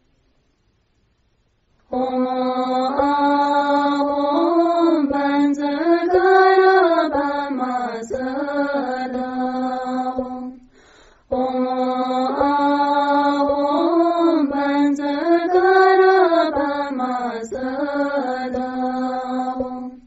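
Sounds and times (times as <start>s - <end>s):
person chanting melodically: 1.9s - 10.7s, 11.3s - 20.0s.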